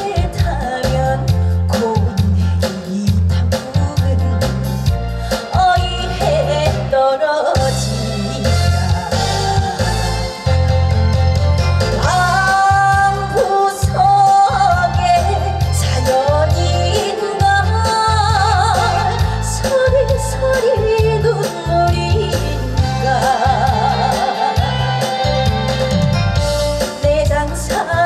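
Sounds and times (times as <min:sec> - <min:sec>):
woman singing: 0:00.0 - 0:10.3, 0:12.0 - 0:25.4, 0:26.8 - 0:28.0
band backing track with heavy bass: 0:00.0 - 0:28.0.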